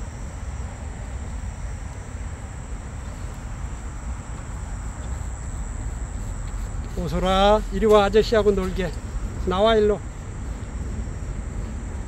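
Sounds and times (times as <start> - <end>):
crickets singing: 0.0 - 12.0.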